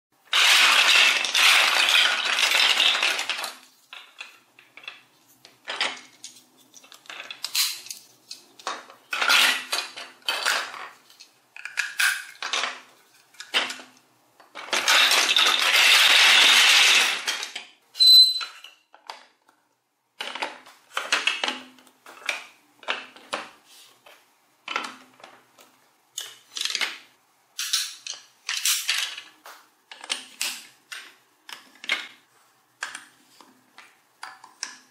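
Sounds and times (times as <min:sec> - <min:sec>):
plastic pieces clicking together: 0:00.3 - 0:17.8, 0:20.2 - 0:32.2, 0:32.8 - 0:34.9
plastic toy blocks clattering: 0:00.3 - 0:17.8, 0:20.2 - 0:34.9.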